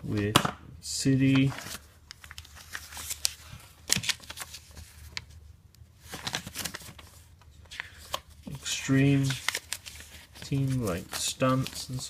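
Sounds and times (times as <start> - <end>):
paper pages rustling: 1.4 - 5.4, 6.0 - 12.0.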